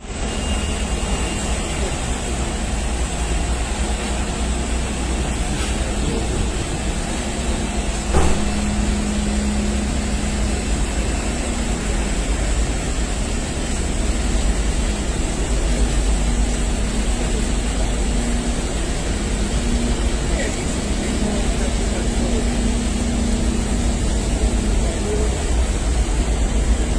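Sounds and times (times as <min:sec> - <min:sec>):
low engine rumble: 0:00.0 - 0:26.9.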